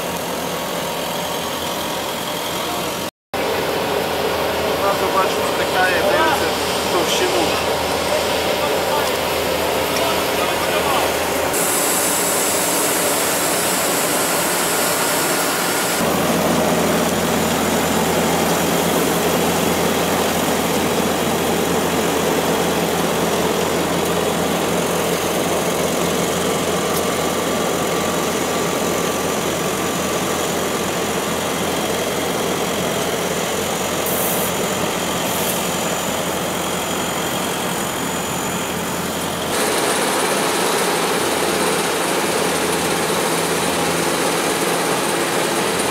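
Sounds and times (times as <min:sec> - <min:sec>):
asphalt paver diesel engine: 0:00.0 - 0:45.9
road roller engine: 0:00.0 - 0:45.9.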